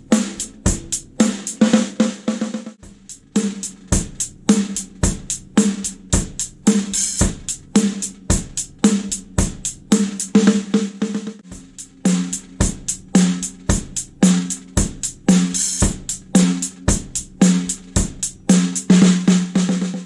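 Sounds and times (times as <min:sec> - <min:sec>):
drum kit groove: 0:00.0 - 0:20.0.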